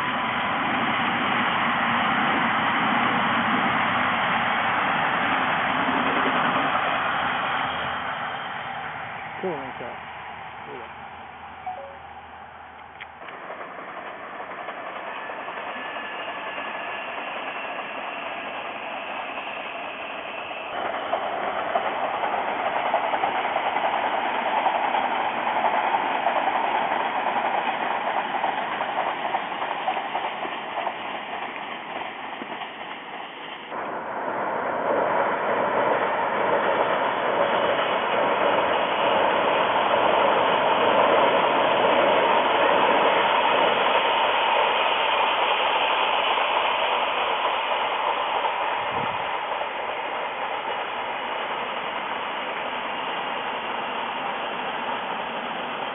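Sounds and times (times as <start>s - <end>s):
electric train rumbling past: 0.0s - 55.9s.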